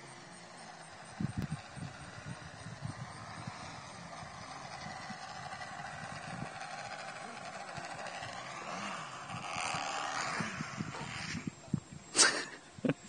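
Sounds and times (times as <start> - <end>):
model airplane motor whine: 0.0 - 11.7.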